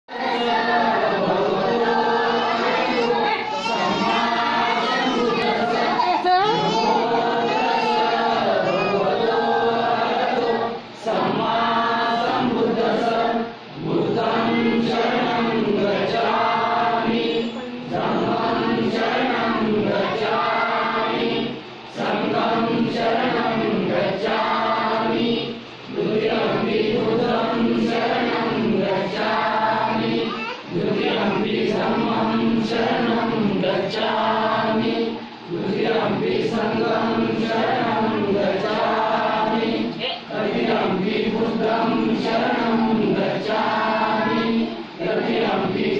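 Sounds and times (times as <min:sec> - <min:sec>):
congregation singing in unison: 0:00.0 - 0:45.9.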